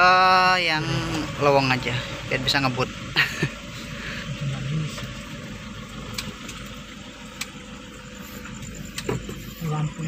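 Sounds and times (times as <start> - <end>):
car engine rumble from cabin: 0.0 - 10.0
road noise: 0.0 - 10.0.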